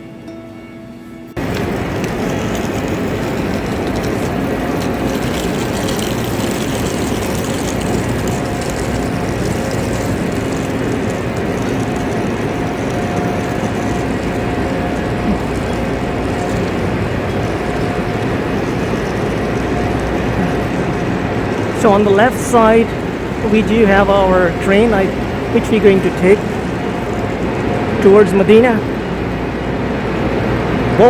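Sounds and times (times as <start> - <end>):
faint steady whine: 0.0 - 31.0
train humming and rumbling: 0.0 - 31.0.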